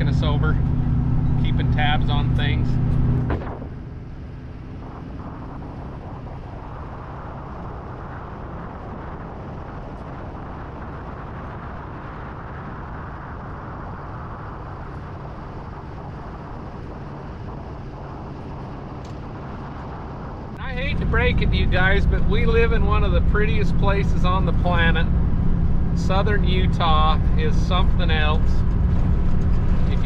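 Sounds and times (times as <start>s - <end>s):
diesel pickup driving on dirt road: 0.0s - 30.0s.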